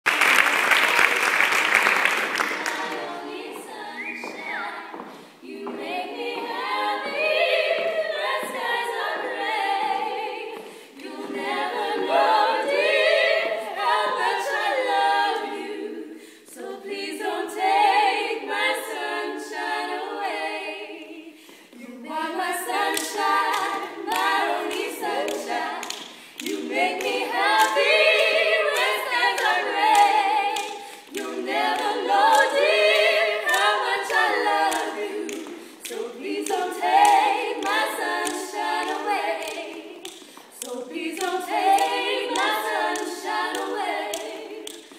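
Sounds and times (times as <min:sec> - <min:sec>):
women singing close harmony: 0:02.4 - 0:44.9.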